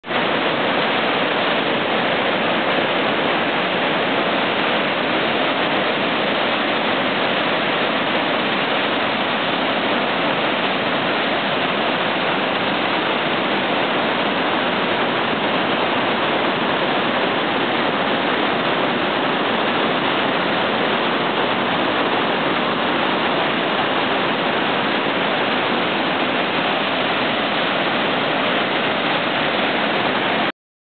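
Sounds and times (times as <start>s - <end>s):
water rushing over rocks: 0.0s - 30.5s.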